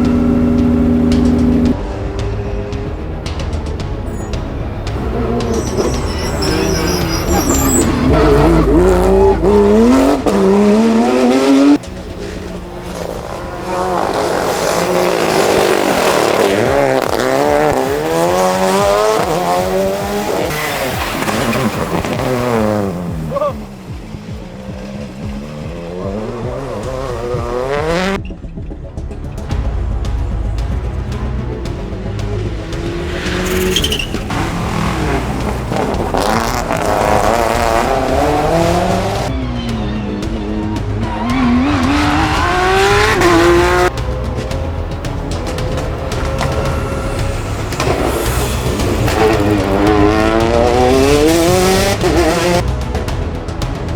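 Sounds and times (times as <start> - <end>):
rally car engine accelerating: 0.0 - 53.9.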